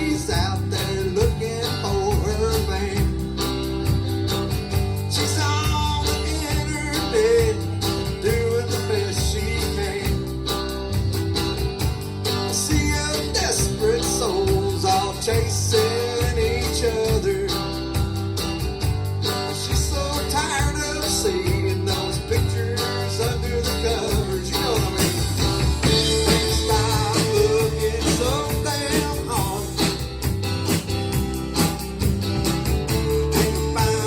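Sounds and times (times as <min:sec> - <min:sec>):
live country-rock band: 0:00.0 - 0:34.0.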